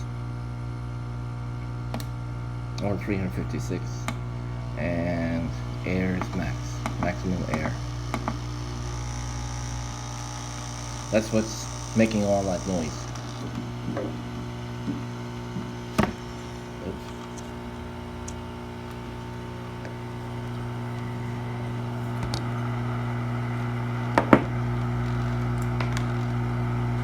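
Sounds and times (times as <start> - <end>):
hot air blower hum and hiss: 0.0 - 27.0.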